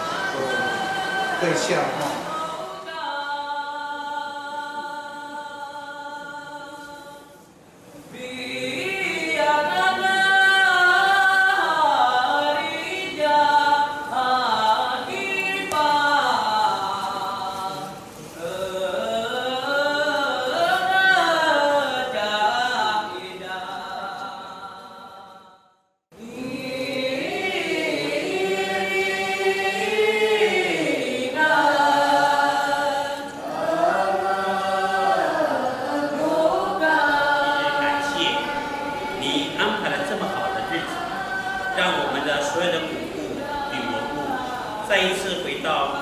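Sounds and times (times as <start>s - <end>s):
voices singing unaccompanied chant: 0.0s - 25.6s, 26.2s - 46.0s.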